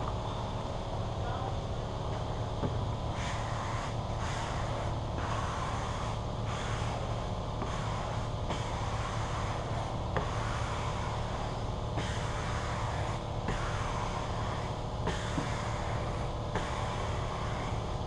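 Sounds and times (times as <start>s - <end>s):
low mechanical hum with tones: 0.0s - 18.0s.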